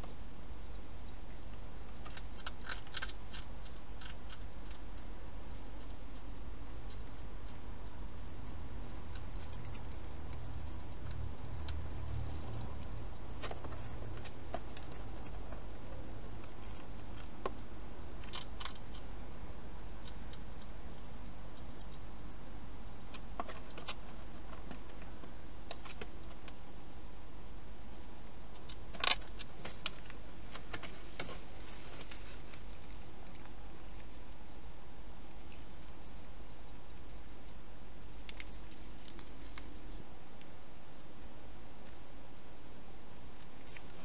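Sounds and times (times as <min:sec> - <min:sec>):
hedgehog crunching and clicking: 0:00.0 - 0:31.3, 0:32.0 - 0:42.2, 0:43.2 - 0:44.0
steady low hiss: 0:00.0 - 0:44.0.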